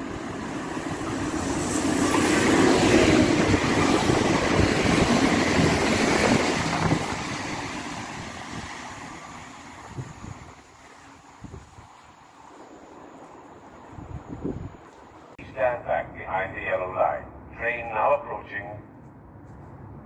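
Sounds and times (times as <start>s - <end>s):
diesel train passing: 0.0s - 20.0s.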